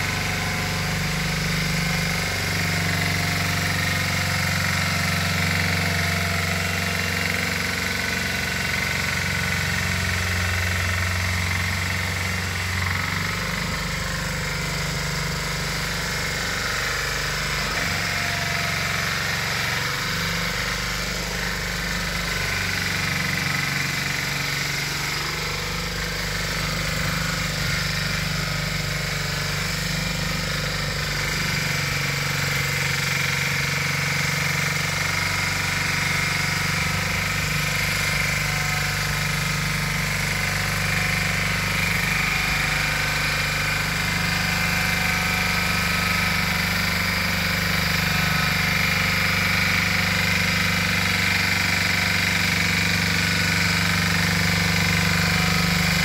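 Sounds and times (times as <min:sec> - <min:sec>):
tiller engine running: 0:00.0 - 0:56.0.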